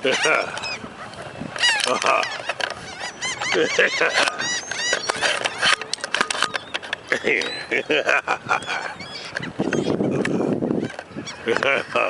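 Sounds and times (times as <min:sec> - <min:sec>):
gulls squawking: 0:00.0 - 0:12.0.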